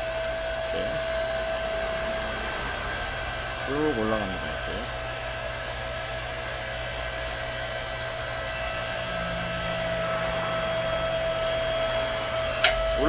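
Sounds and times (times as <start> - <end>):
log splitter hydraulic pump whine: 0.0 - 13.0
lower machine tone: 0.0 - 13.0.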